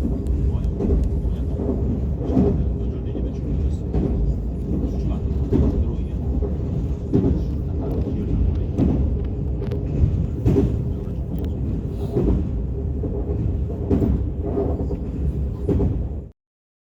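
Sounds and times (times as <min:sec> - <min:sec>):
train low rumble: 0:00.0 - 0:16.4.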